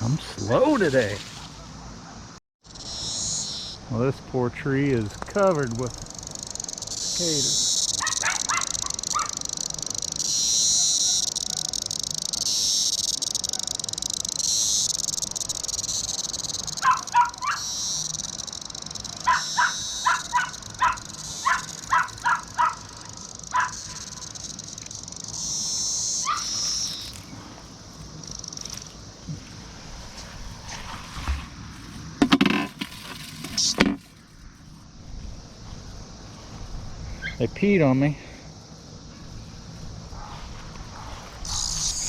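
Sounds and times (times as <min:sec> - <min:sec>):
cicada chorus whine: 0:00.0 - 0:42.0.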